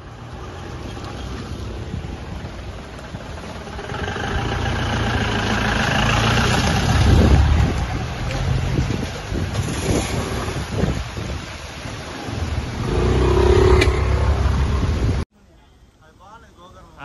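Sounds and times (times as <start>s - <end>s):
vehicle passing close by: 0.0s - 10.8s, 12.0s - 15.2s
traffic on wet road: 0.0s - 15.2s.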